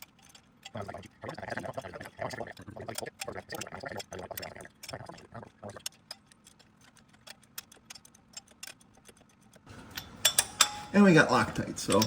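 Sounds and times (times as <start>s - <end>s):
hand tools clicking: 0.0s - 1.2s, 2.0s - 12.0s.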